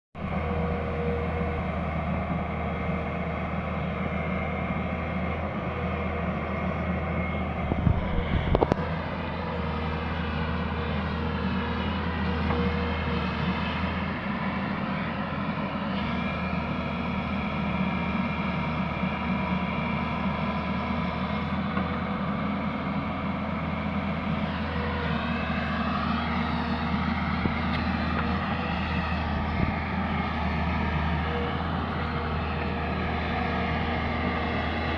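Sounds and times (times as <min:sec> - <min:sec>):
excavator diesel engine: 0:00.2 - 0:34.9.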